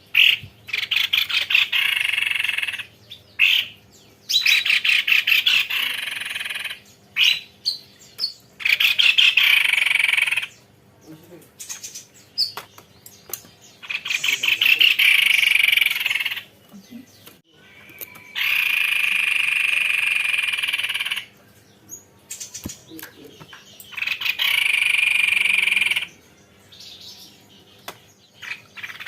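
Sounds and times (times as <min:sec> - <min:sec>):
bird singing rolling trills: 0:00.0 - 0:29.0.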